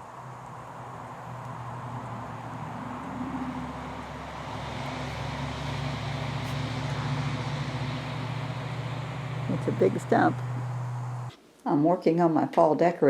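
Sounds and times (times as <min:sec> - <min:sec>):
engine humming: 0:00.0 - 0:11.3.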